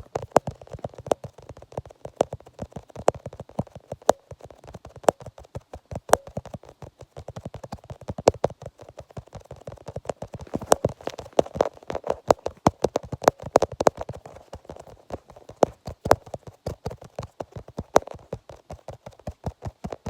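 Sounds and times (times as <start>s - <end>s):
rapid irregular clicking: 0.0s - 20.0s.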